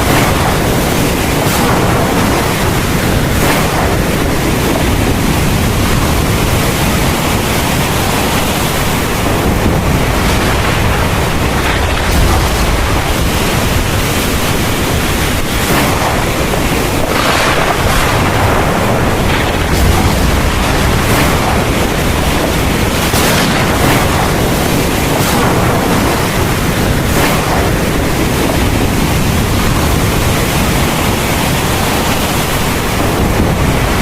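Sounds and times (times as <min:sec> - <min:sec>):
deep low thunder rumble: 0:00.0 - 0:32.1
heavy rain pouring: 0:00.0 - 0:34.0.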